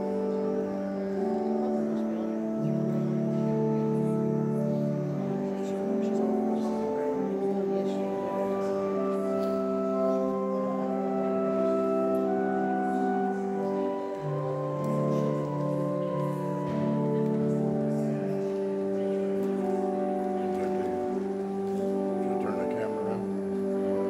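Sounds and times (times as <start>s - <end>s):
pipe organ chords: 0.0s - 24.0s.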